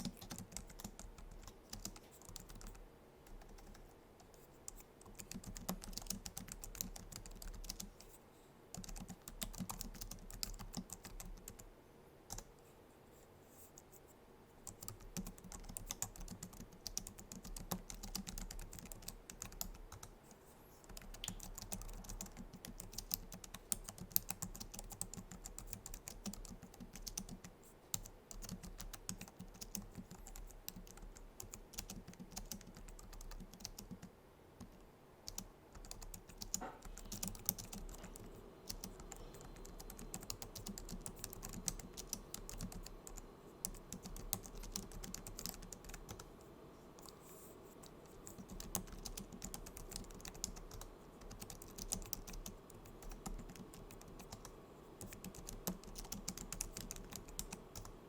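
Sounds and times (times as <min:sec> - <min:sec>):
keyboard keys clicking: 0:00.0 - 0:03.8, 0:04.7 - 0:07.9, 0:08.7 - 0:11.7, 0:14.7 - 0:20.1, 0:20.9 - 0:46.2, 0:47.8 - 0:58.0.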